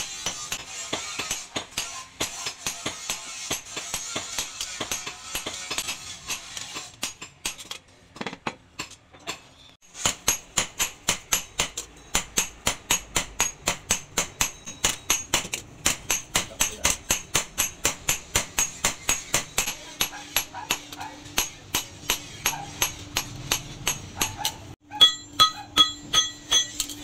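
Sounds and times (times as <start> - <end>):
hammer striking hot metal on anvil: 0.0 - 7.7, 10.0 - 27.0.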